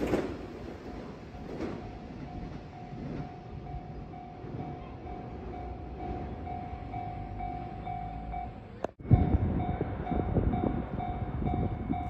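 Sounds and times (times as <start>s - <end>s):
level crossing warning bell: 0.8s - 12.0s.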